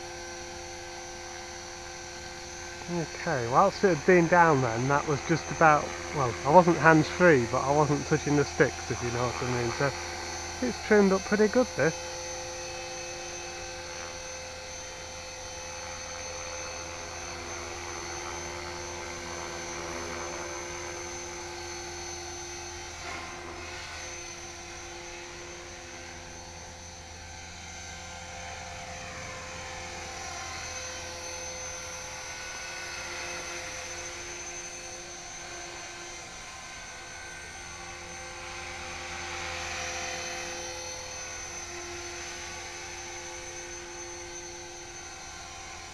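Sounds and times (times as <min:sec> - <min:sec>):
model helicopter motor whine: 0:00.0 - 0:45.9.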